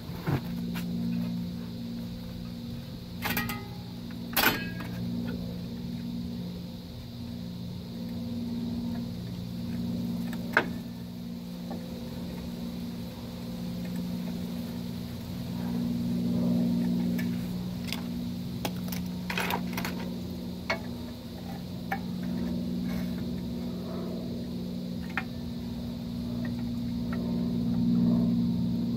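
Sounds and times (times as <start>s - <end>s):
low mechanical hum: 0.0s - 28.9s.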